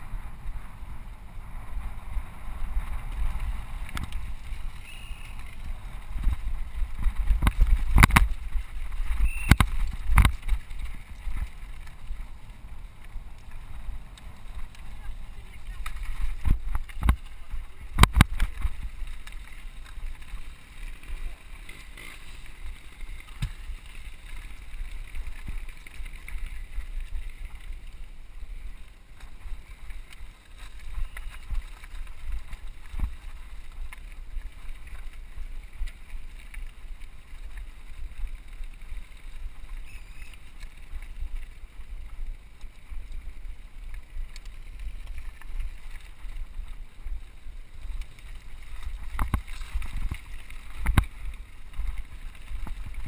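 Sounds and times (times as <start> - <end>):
tyres rolling on gravel: 0.0 - 53.0
wind rumbling on microphone: 0.0 - 53.0.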